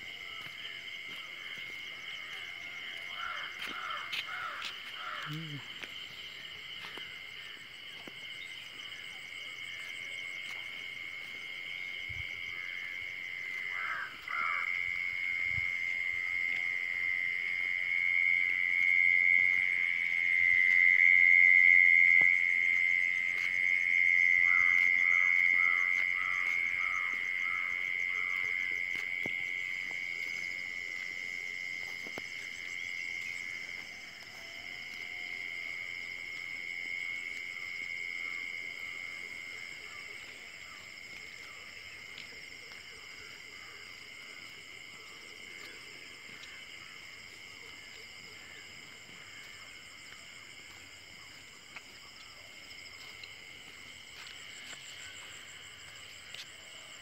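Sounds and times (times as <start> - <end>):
field insects trilling: 0.0 - 57.0
lower insect notes: 0.0 - 57.0.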